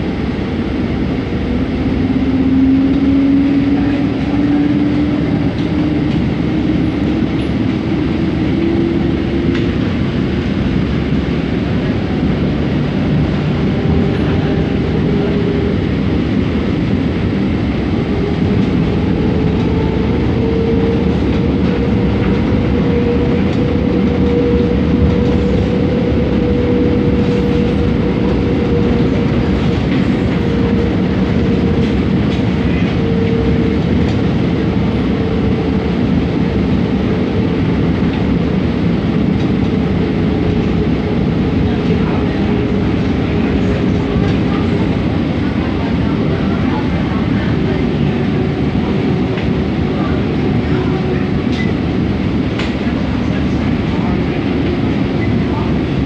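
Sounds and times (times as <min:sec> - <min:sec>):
train drive whine: 0:00.0 - 0:56.0.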